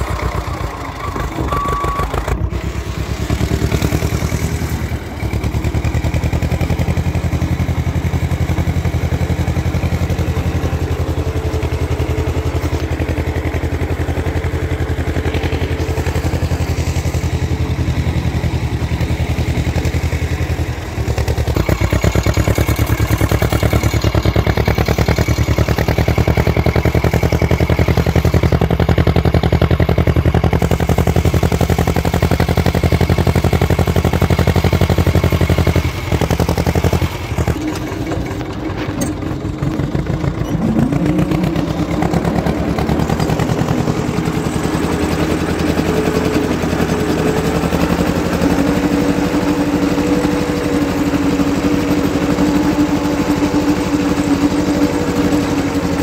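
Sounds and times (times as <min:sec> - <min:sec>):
tractor engine throbbing: 0:00.0 - 0:56.0.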